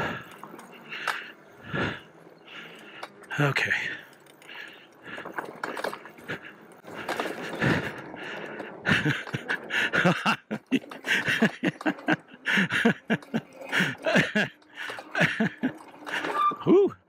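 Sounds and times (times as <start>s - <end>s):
bike frame knocking and rattling: 2.6s - 16.9s.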